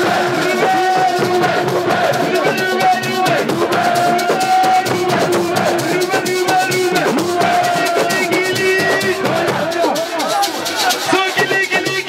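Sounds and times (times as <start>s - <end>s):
drums and rattles: 0.0s - 12.0s
voices singing and chanting: 0.0s - 12.0s.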